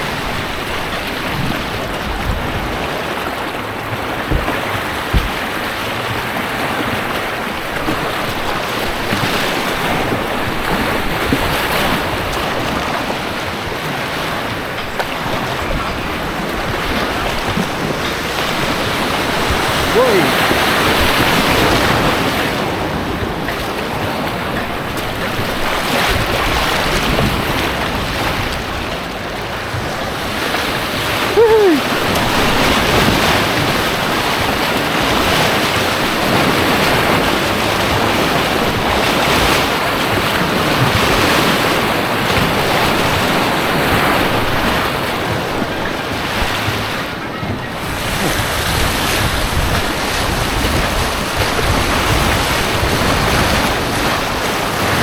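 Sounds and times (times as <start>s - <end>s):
rushing white water: 0.0s - 55.0s.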